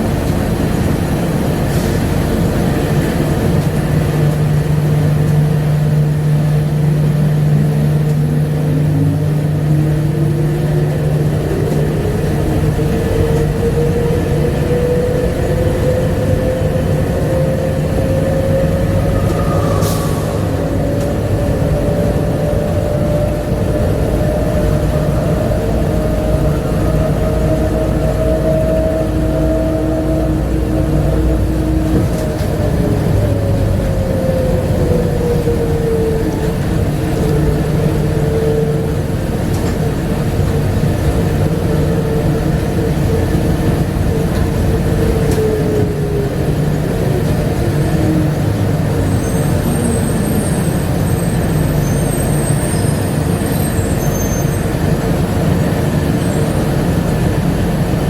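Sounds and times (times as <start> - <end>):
train low rumble: 0.0 - 58.0
train motor whine: 0.1 - 58.0.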